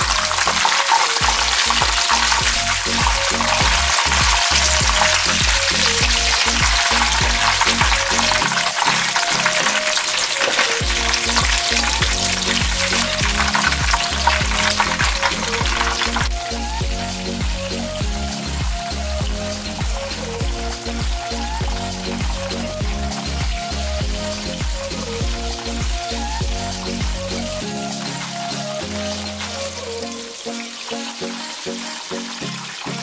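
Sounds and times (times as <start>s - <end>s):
chicken sizzling in hot oil: 0.0s - 27.2s, 27.9s - 33.0s
background music: 0.0s - 33.0s.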